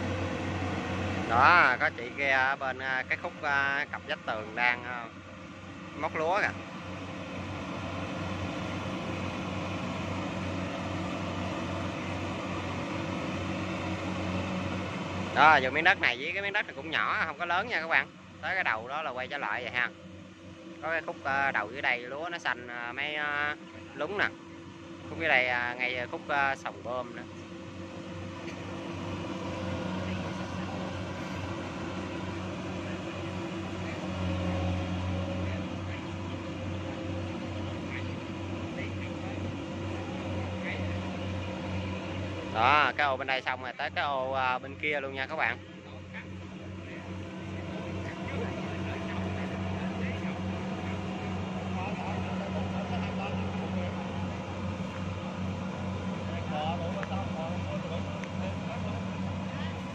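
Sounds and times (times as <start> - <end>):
combine harvester diesel engine drone: 0.0 - 59.9.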